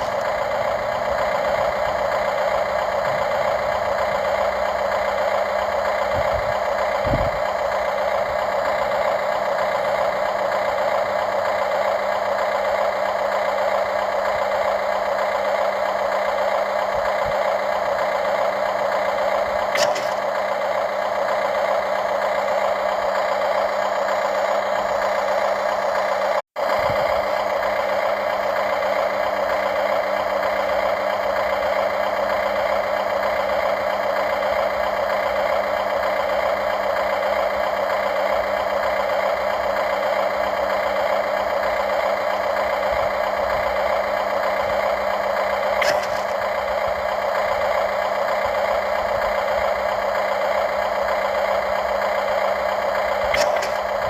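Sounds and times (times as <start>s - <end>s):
toy excavator motor humming: 0.0s - 54.0s.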